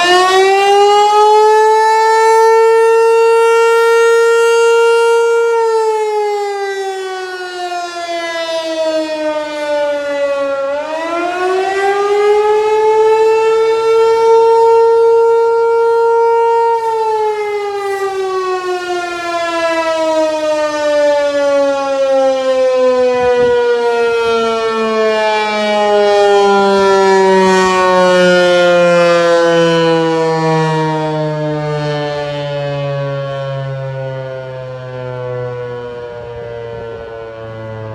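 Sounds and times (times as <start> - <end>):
warning siren steady tone: 0.0 - 37.9.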